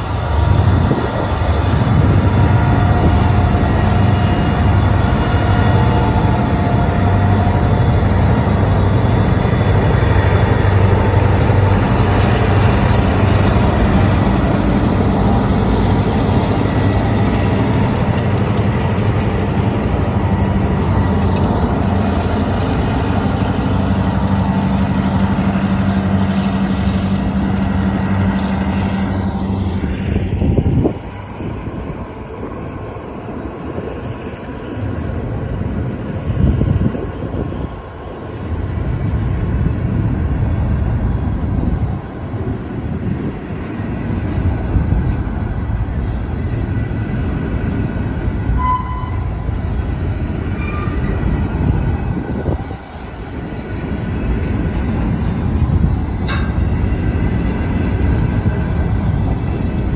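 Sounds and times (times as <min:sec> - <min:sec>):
diesel locomotive engines droning: 0:00.0 - 0:59.9
rail cars rumbling past: 0:00.0 - 0:59.9.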